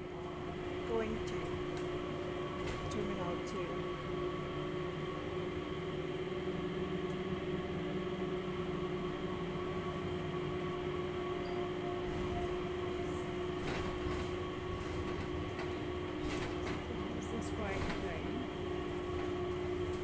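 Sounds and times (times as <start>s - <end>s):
train car hum and rumble: 0.0s - 20.0s.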